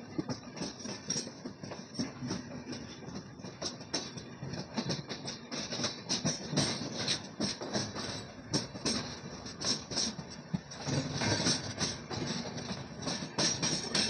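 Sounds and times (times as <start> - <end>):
train coach rumbling: 0.0 - 14.0
wheels clattering over rail joints: 0.0 - 14.0.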